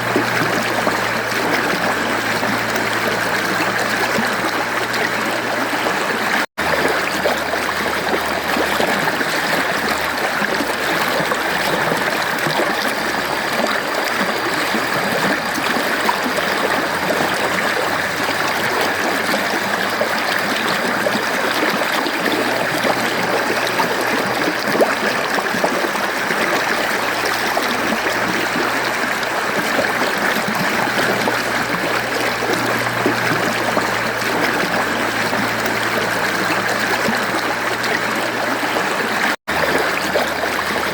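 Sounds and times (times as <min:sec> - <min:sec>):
mountain stream flowing: 0:00.0 - 0:40.9.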